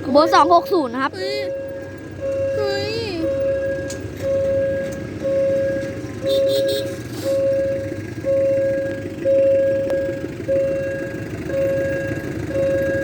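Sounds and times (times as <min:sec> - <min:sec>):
level crossing bell ringing: 0:00.0 - 0:13.0.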